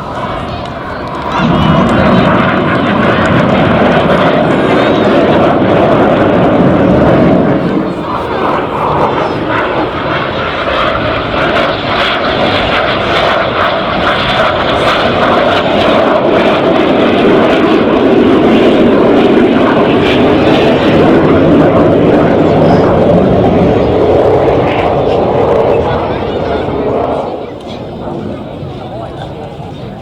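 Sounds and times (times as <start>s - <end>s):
aircraft engine rushing: 0.0s - 30.0s.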